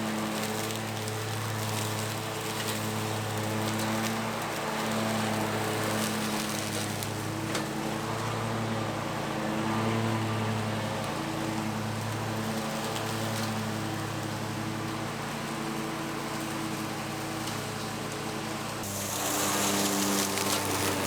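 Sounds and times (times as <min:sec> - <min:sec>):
mower engine hum: 0:00.0 - 0:21.0
spinning mower blades: 0:00.0 - 0:21.0.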